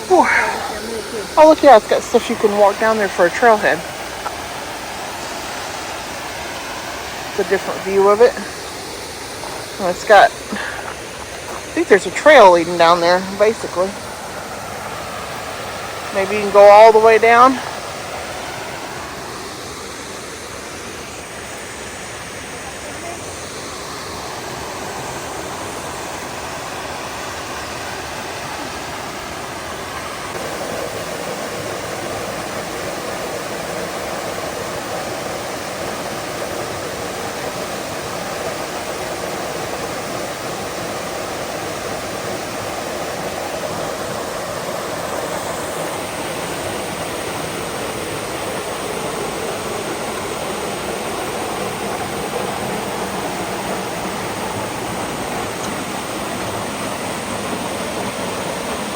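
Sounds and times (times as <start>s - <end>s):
water rushing down spillway: 0.0s - 58.9s.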